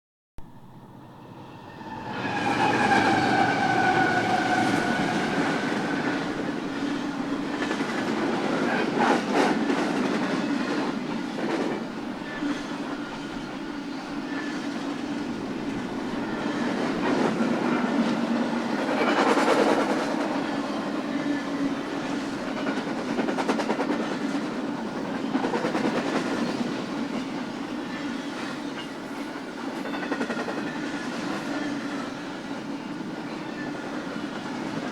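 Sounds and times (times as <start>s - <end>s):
freight train wheels rumbling on rail: 0.8s - 34.9s.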